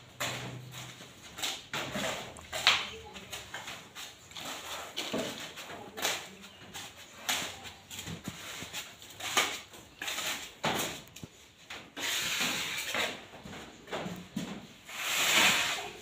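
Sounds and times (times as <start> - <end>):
hand tool scraping wet cement: 0.2 - 11.2, 11.9 - 13.2, 14.9 - 16.0.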